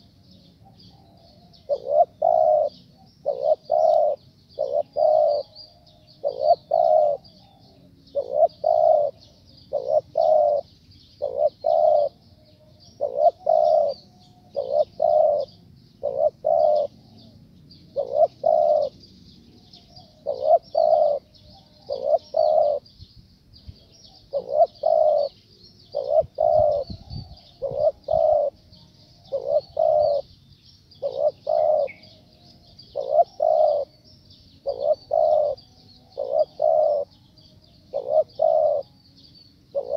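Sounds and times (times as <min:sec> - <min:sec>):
dove cooing: 0:00.0 - 0:12.2, 0:12.9 - 0:19.0, 0:19.6 - 0:22.8, 0:24.1 - 0:30.3, 0:31.0 - 0:39.0.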